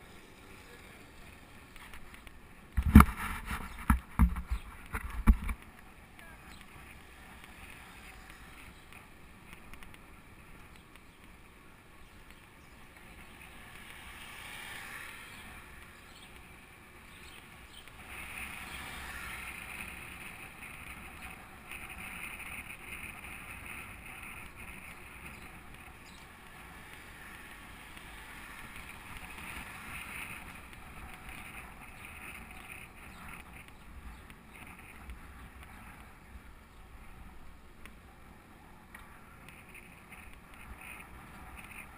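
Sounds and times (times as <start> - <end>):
bicycle tyre rumble on asphalt: 0.0 - 41.9.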